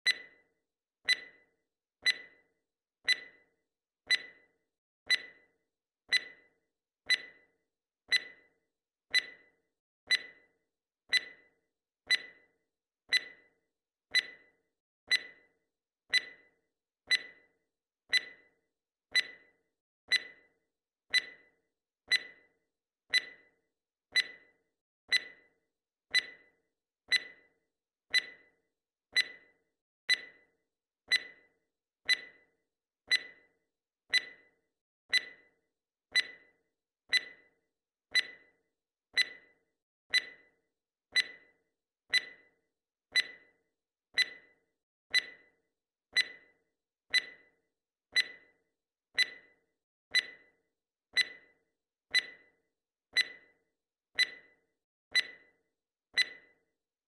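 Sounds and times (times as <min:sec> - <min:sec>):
timer ticking: 0:00.0 - 0:00.4, 0:01.0 - 0:02.4, 0:03.0 - 0:03.5, 0:04.1 - 0:04.5, 0:05.1 - 0:05.5, 0:06.1 - 0:10.5, 0:11.1 - 0:12.5, 0:13.1 - 0:15.5, 0:16.1 - 0:17.5, 0:18.1 - 0:22.5, 0:23.1 - 0:38.6, 0:39.2 - 0:40.5, 0:41.1 - 0:43.6, 0:44.2 - 0:48.6, 0:49.2 - 0:50.6, 0:51.2 - 0:52.6, 0:53.2 - 0:53.6, 0:54.2 - 0:55.6, 0:56.2 - 0:56.6.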